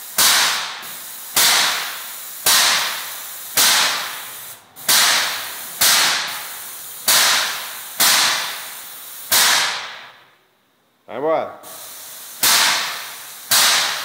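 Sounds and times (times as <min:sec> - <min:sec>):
paint sprayer hissing in pulses: 0:00.0 - 0:09.8, 0:11.6 - 0:14.0.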